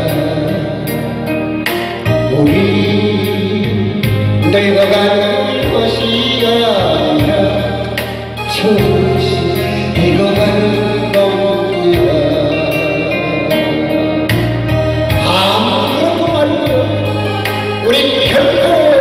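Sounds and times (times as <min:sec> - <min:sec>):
held bass notes: 0:00.0 - 0:19.0
instrumental accompaniment: 0:00.0 - 0:19.0
man singing into a microphone: 0:00.0 - 0:19.0.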